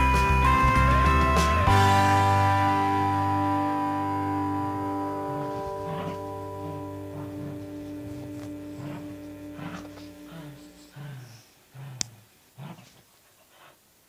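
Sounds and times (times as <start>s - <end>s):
held music chord: 0.0s - 11.3s.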